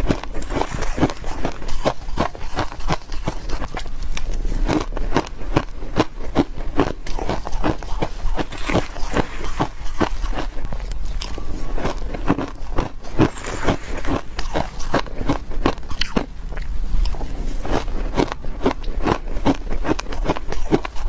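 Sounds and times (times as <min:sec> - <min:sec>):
chewing shaved ice: 0:00.0 - 0:21.0.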